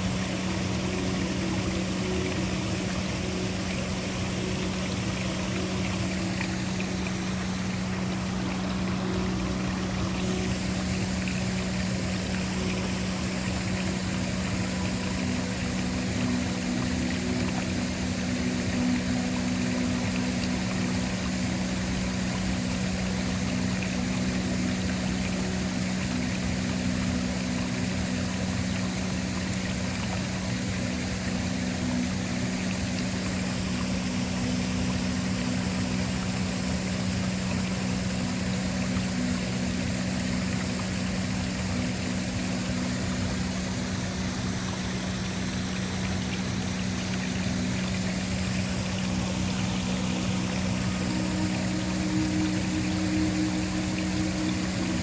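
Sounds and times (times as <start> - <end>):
low ambient drone: 0.0 - 55.0
waterfall rushing: 0.0 - 55.0.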